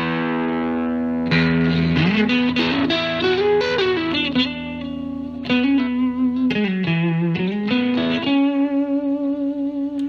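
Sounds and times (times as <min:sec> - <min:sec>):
distorted electric guitar lead: 0:00.0 - 0:10.0.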